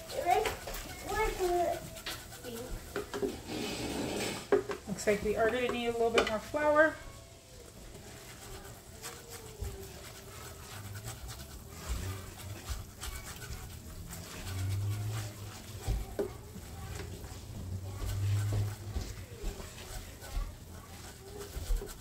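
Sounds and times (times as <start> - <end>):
whisk stirring in a pot: 0.0 - 22.0.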